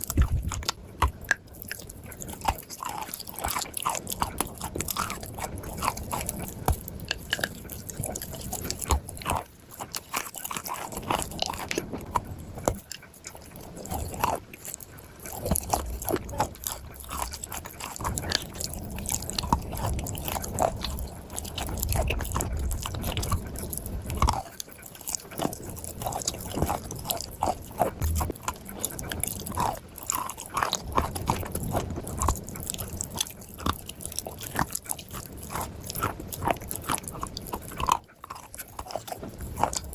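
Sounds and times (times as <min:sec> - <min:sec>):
person chewing crunchy clay: 0:00.0 - 0:39.9.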